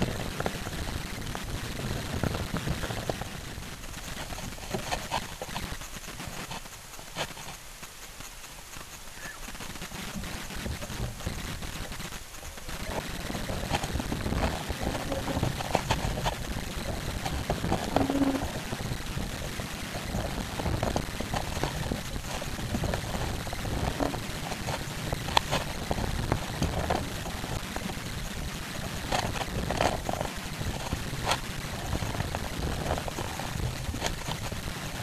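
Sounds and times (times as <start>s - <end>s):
oars clicking and knocking: 0.0s - 35.0s
water splashing along boat hull: 0.0s - 35.0s.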